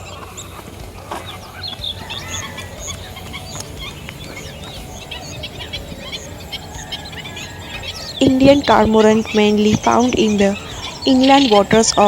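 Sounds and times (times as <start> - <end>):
birds chirping and calling: 0.0 - 12.0
low steady rumble: 0.0 - 12.0.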